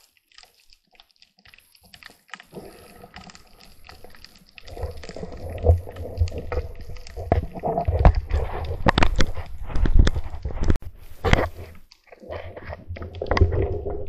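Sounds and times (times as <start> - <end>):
underwater rumble of water: 2.5 - 14.0.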